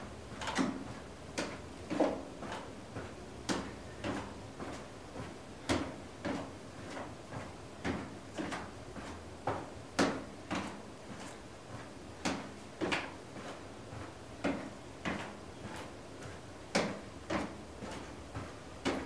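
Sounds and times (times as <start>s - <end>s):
footsteps on exercise step: 0.4s - 19.0s.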